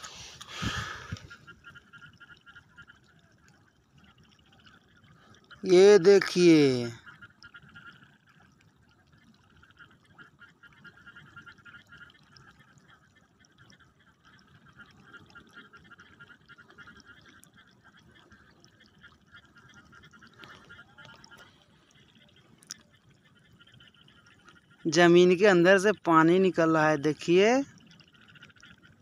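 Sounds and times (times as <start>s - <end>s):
water bubbling and trickling: 0.0s - 29.0s.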